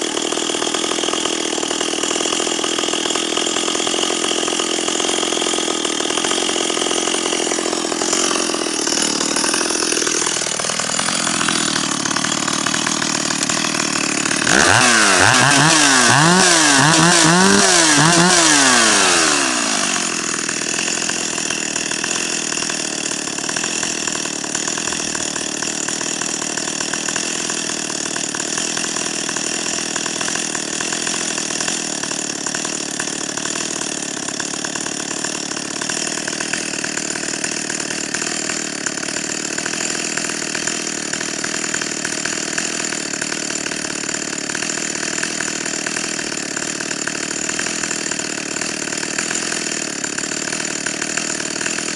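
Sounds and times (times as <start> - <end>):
chainsaw revving and idling: 0.0 - 51.9.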